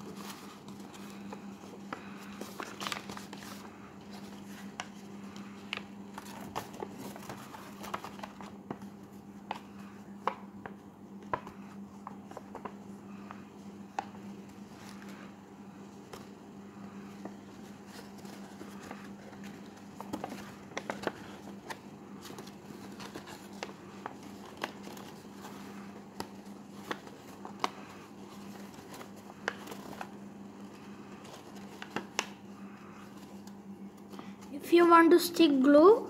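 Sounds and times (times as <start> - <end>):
paper crinkling: 0.0 - 34.5
steady low hum: 0.0 - 36.0.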